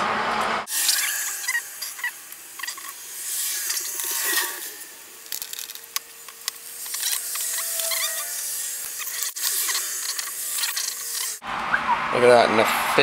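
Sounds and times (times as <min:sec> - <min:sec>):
scraping and rubbing: 0:00.7 - 0:11.4.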